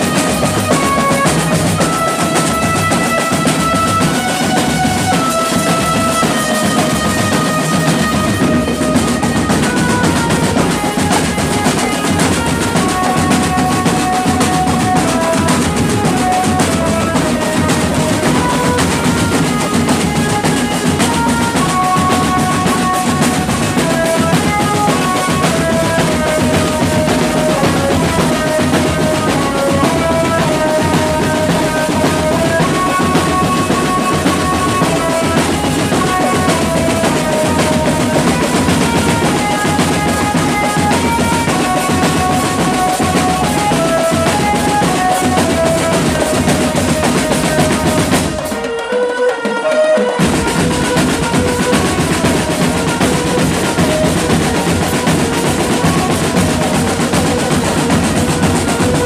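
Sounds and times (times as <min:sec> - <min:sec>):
cymbals: 0:00.0 - 0:59.0
snare and tenor drums: 0:00.0 - 0:59.0.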